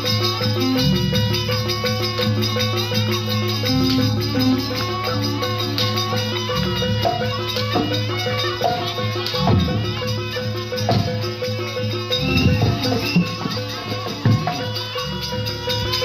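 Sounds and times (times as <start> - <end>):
drum strokes: 0.0 - 16.0
metallophone notes: 0.0 - 16.0.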